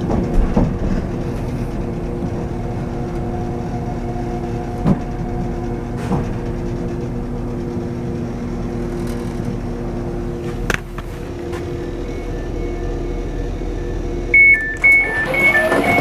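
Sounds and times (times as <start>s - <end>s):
train engine drone: 0.0s - 16.0s.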